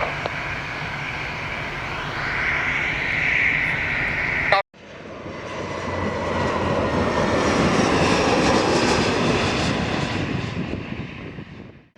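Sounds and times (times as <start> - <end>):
jet engines roaring: 0.0 - 11.8.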